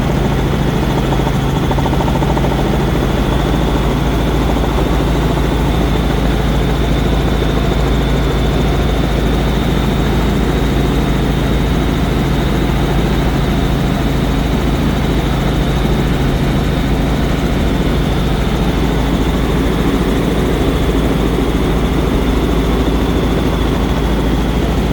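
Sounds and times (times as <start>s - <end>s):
helicopter rotor and engine rumble: 0.0s - 24.9s.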